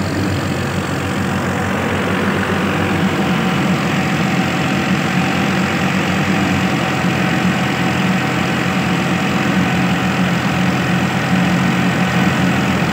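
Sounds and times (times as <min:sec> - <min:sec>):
diesel tractor engine running: 0:00.0 - 0:12.9
thresher drum running: 0:00.0 - 0:12.9.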